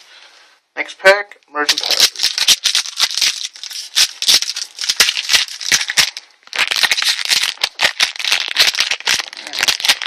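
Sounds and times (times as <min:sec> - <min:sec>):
plastic wrapper crackling and tearing: 0:01.7 - 0:10.0.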